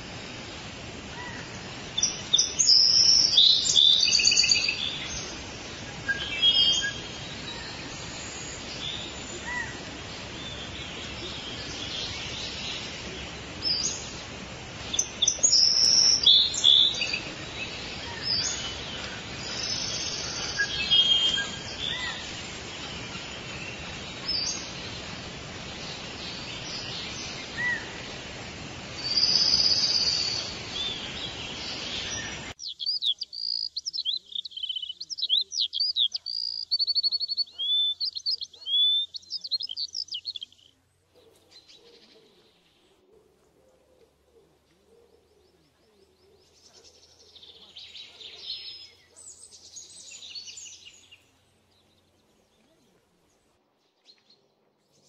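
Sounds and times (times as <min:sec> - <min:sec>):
songbirds chirping and trilling: 0:00.0 - 0:55.0
steady background hiss: 0:00.0 - 0:55.0.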